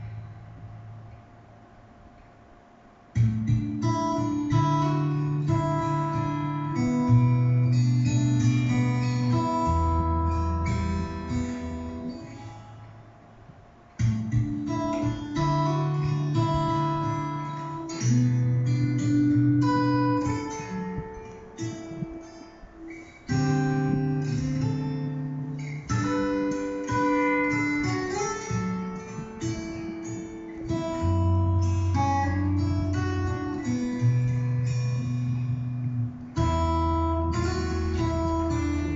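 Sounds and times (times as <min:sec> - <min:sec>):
acoustic guitar instrumental: 0:00.0 - 0:38.9.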